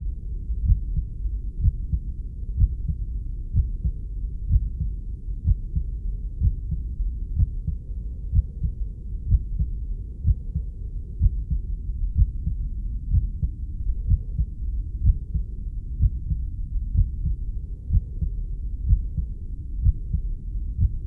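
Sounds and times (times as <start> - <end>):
continuous low rumble: 0.0 - 21.0
heartbeat double thump: 0.7 - 2.0, 2.6 - 16.4, 17.0 - 20.2, 20.8 - 21.0.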